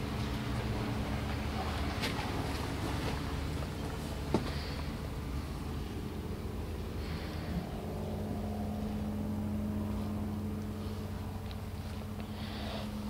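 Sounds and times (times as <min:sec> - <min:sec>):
engine droning: 0:00.0 - 0:13.0
steady hum: 0:00.0 - 0:13.0.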